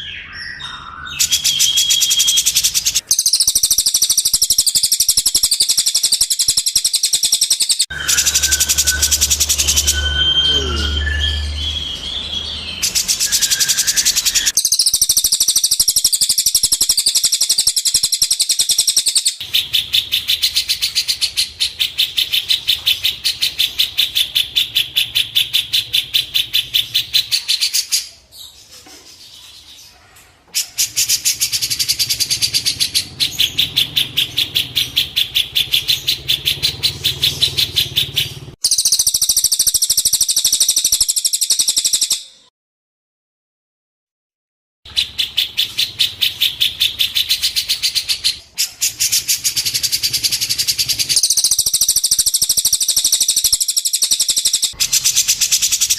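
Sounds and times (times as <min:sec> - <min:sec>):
songbird rapid chirping: 0:00.0 - 0:42.5, 0:44.9 - 0:55.9.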